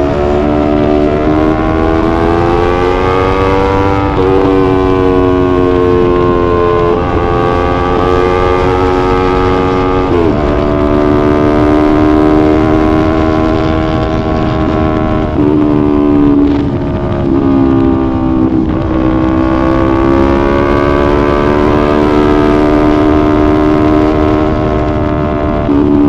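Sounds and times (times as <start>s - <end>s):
motorcycle engine running: 0.0s - 26.0s
wind on microphone: 0.0s - 26.0s.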